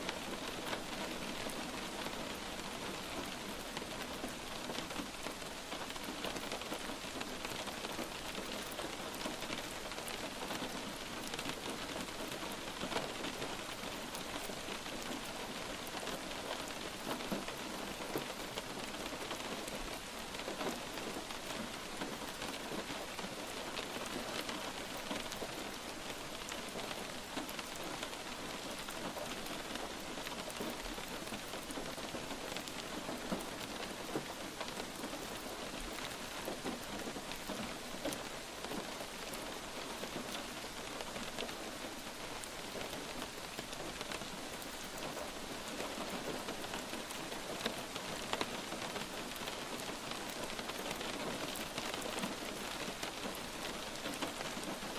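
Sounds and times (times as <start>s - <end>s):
light rain falling: 0.0s - 54.9s
raindrop ticks: 0.1s - 54.9s.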